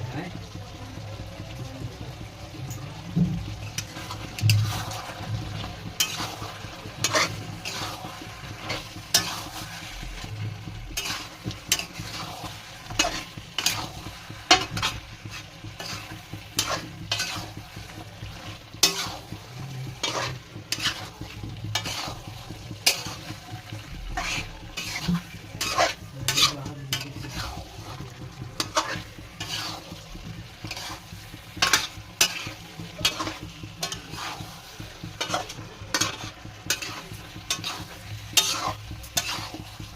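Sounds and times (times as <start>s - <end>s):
food sizzling: 0.0s - 39.9s
spoon scraping a pan: 2.6s - 39.9s.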